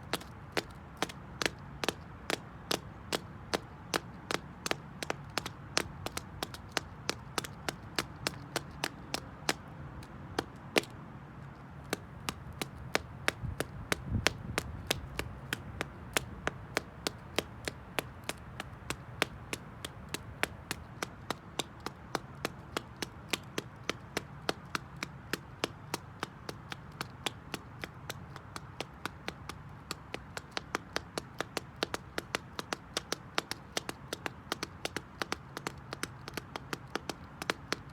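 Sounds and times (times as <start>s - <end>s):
shoes tapping on concrete: 0.0s - 37.9s.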